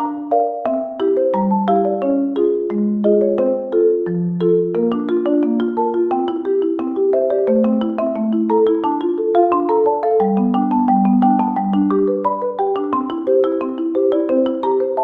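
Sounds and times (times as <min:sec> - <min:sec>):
marimba music: 0:00.0 - 0:15.0.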